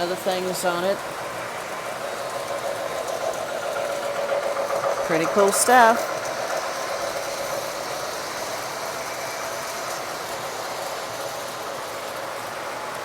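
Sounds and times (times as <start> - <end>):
model trains running on track: 0.0 - 13.0.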